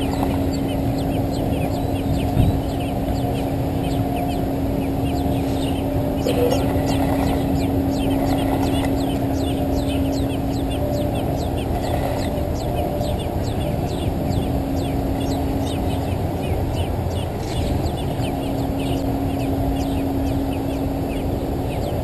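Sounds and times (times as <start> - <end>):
low hum and rumble: 0.0 - 22.0
nestlings begging calls: 0.0 - 22.0.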